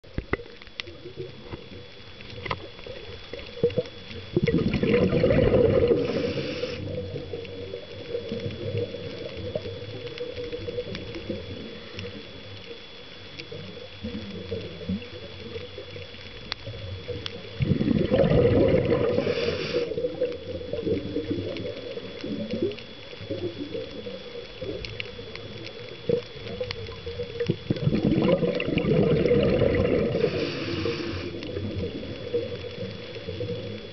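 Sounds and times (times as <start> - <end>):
exhaled bubbles gurgling underwater: 0.0 - 33.9
faint clicks underwater: 0.0 - 33.9
regulator hiss: 0.4 - 33.9.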